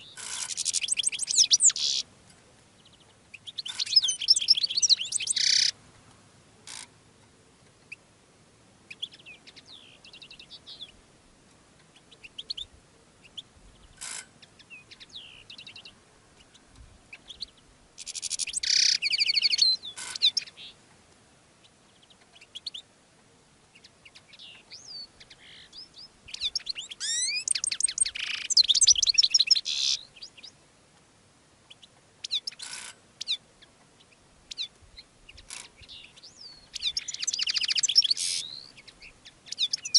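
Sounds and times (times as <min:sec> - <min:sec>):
finch twittering song: 0:00.0 - 0:05.8, 0:08.9 - 0:11.0, 0:11.8 - 0:20.8, 0:21.6 - 0:22.9, 0:23.7 - 0:30.6, 0:31.6 - 0:39.9.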